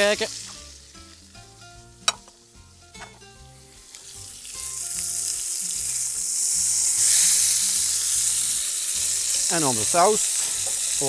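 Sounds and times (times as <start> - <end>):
fat sizzling in a frying pan: 0.0 - 11.0.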